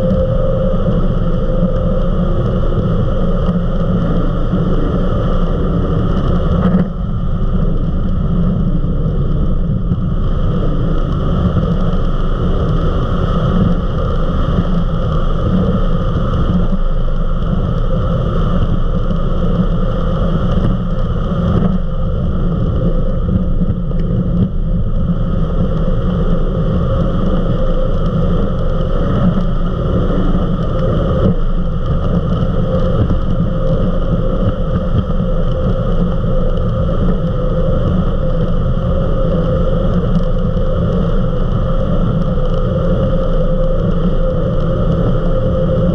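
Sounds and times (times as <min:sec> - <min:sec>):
powerboat engine drone: 0:00.0 - 0:45.9.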